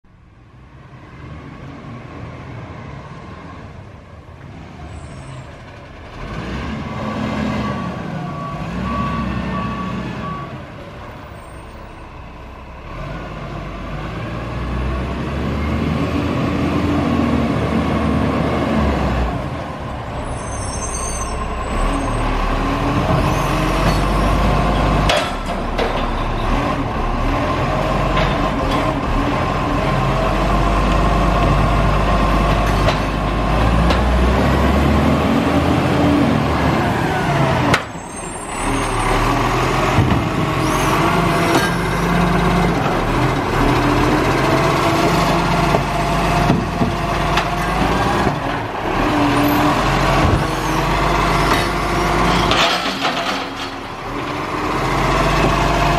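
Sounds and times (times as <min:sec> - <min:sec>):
garbage truck diesel engine: 0:00.1 - 0:55.9.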